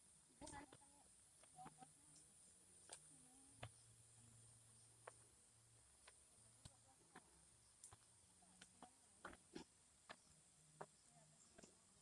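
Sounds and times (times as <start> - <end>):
faint high hiss: 0.0 - 12.0
faint footsteps on dirt path: 0.4 - 12.0.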